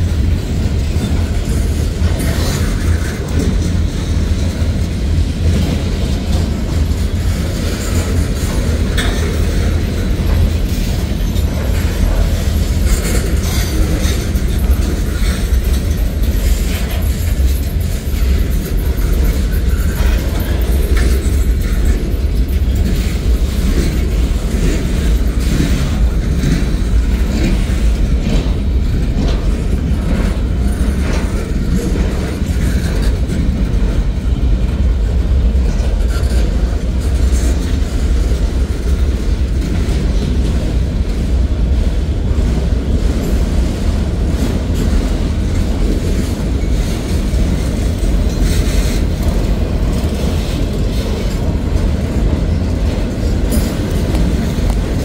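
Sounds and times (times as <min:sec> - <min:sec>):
freight train wheels rumbling: 0:00.0 - 0:55.0
wheels clicking over rail joints: 0:00.0 - 0:55.0.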